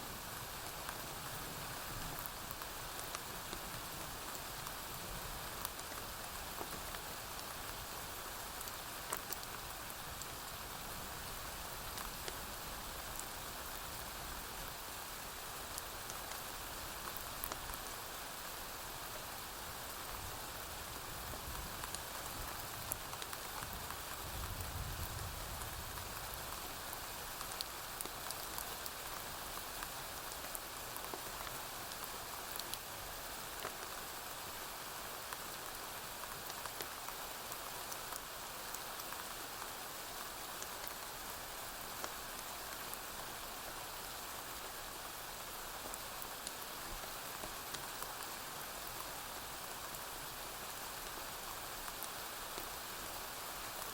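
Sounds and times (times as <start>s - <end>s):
rain on a roof: 0.0s - 53.9s.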